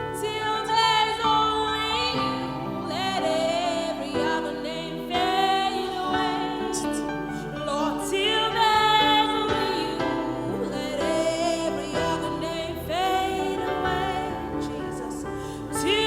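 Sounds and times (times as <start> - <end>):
gospel worship singing: 0.0 - 16.0.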